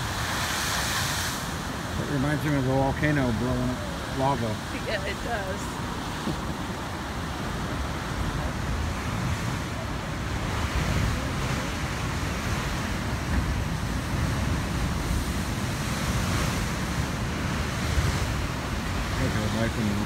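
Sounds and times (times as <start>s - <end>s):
surf breaking on rocks: 0.0s - 20.0s
wind buffeting microphone: 0.0s - 20.0s.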